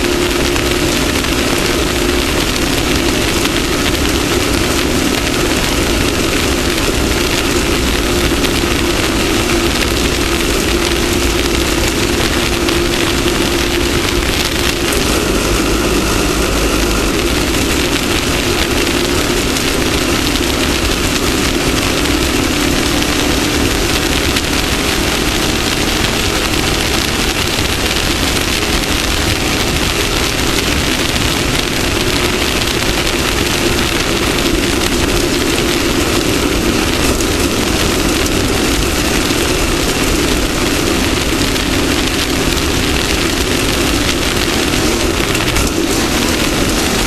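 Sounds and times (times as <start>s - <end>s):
race vehicle engine: 0.0s - 47.0s
wind and terrain noise: 0.0s - 47.0s.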